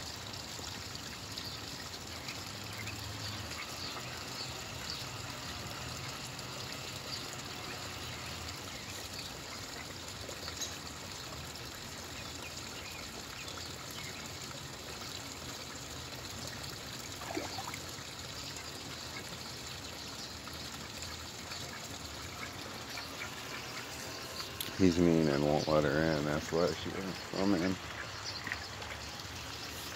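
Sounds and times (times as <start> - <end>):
ducks splashing at water surface: 0.0 - 29.9
trickle of running water: 0.0 - 29.9.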